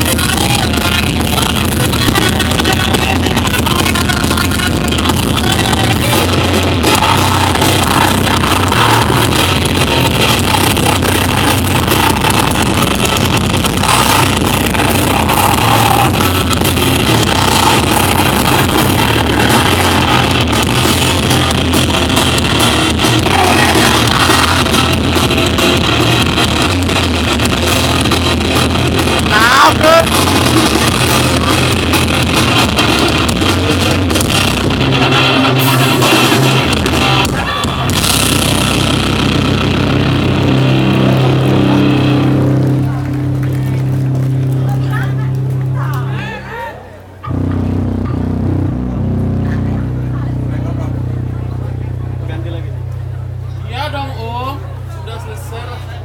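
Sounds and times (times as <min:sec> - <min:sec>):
loud electric guitars: 0:00.0 - 0:56.0
rock band playing live: 0:00.0 - 0:56.0.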